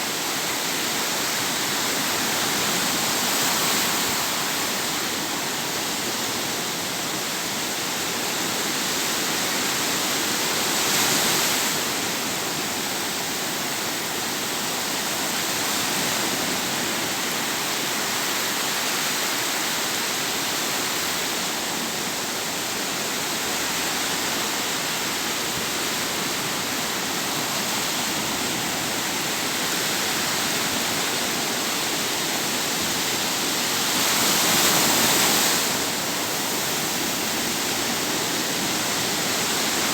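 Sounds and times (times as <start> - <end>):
sea waves on the shore: 0.2 - 39.9.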